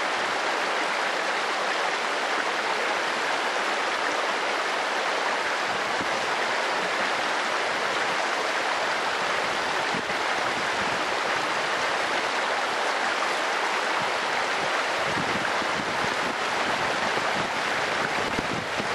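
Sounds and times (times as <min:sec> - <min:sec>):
stream rushing over rocks: 0:00.0 - 0:18.9.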